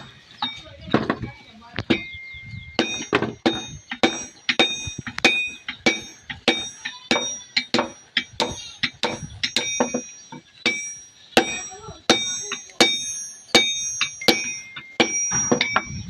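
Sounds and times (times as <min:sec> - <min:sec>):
hammer striking metal on anvil: 0:02.8 - 0:16.0.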